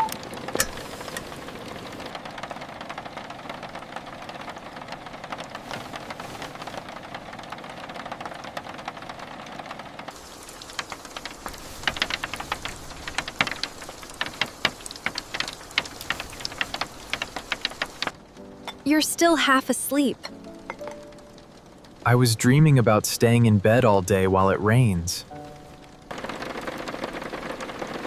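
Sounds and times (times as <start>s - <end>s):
raindrops tapping close by: 0.0s - 19.2s, 20.2s - 28.0s
steady rain: 0.0s - 28.0s.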